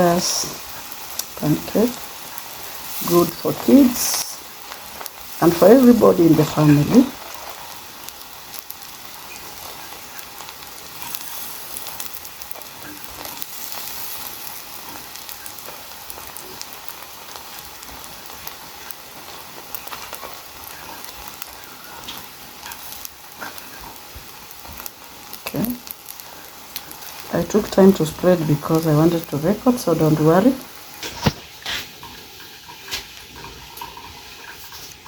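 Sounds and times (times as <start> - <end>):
batter sizzling in a pan: 0.0 - 35.0.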